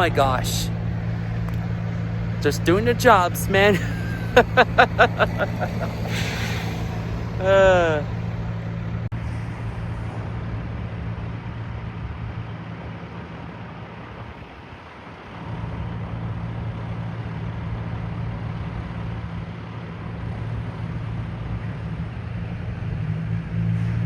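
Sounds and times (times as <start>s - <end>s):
heavy vehicle engine humming: 0.0s - 24.0s.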